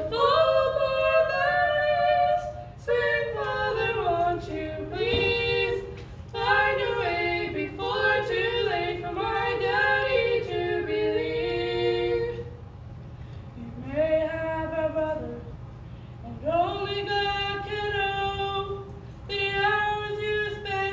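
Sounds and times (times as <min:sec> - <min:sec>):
women singing in harmony: 0:00.0 - 0:12.6, 0:13.6 - 0:15.6, 0:16.3 - 0:20.9.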